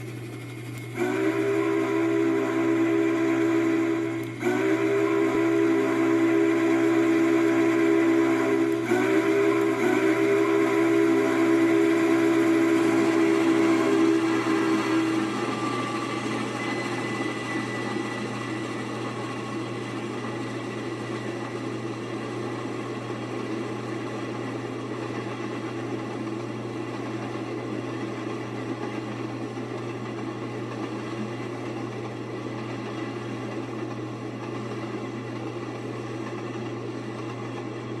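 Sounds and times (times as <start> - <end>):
passenger train rumbling by: 0.0 - 38.0.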